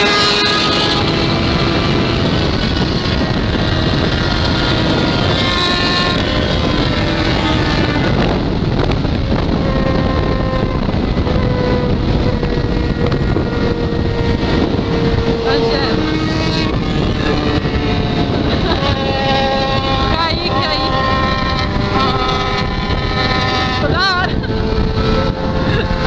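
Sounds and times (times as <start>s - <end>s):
motorcycle engine running hard: 0.0s - 26.0s
wind noise on microphone: 0.0s - 26.0s.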